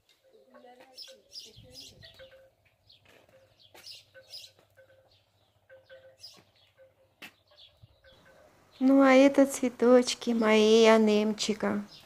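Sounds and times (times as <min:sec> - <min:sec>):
small birds chirping: 0:00.3 - 0:12.0.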